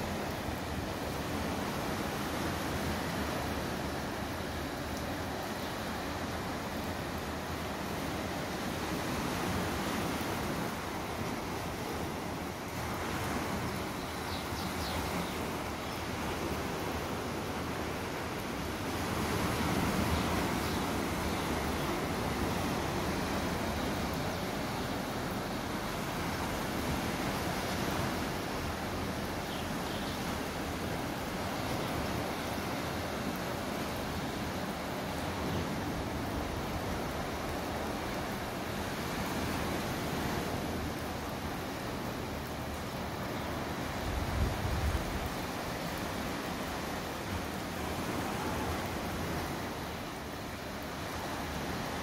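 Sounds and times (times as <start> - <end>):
sea surf: 0.0 - 52.0
wind: 0.0 - 52.0.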